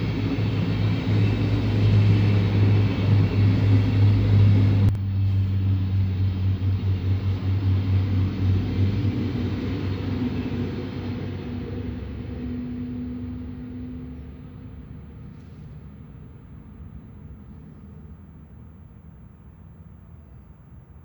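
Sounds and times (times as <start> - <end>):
diesel railcar engine drone: 0.0 - 21.0.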